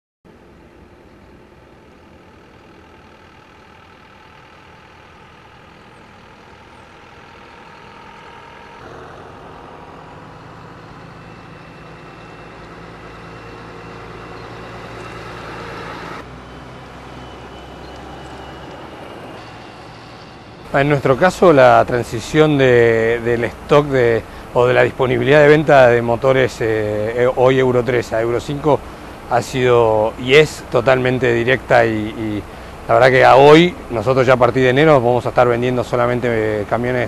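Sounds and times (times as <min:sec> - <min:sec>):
diesel trucks driving by: 0:00.3 - 0:37.0.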